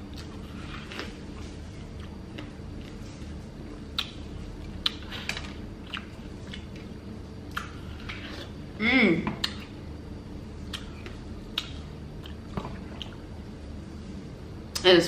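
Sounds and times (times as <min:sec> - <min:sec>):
person chewing watermelon: 0:00.0 - 0:08.7, 0:09.4 - 0:13.4.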